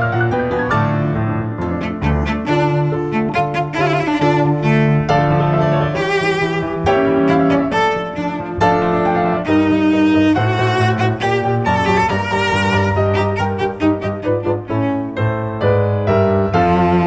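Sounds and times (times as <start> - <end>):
string-like instrumental music: 0.0 - 17.0.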